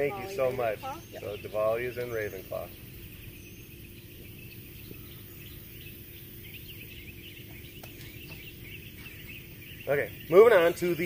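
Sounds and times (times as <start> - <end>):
birds chirping: 0.0 - 11.0
faint hum: 0.0 - 11.0.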